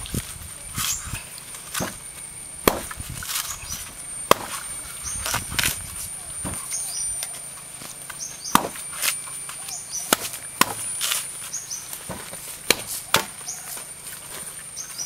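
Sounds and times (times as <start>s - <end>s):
machete chopping coconut husk: 0.8s - 14.2s.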